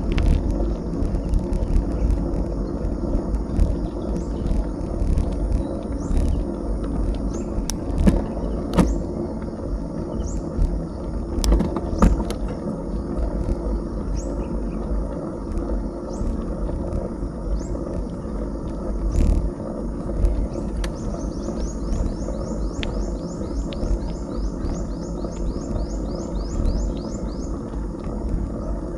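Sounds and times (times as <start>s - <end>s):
bicycle tyre noise: 0.0s - 28.9s
bike clicks and knocks over bumps: 0.0s - 28.9s
wind rumble: 0.0s - 28.9s.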